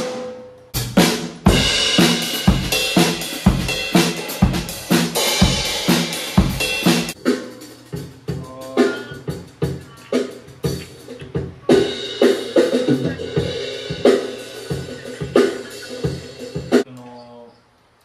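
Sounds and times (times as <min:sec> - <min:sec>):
drum kit playing steady beat: 0:00.0 - 0:16.9.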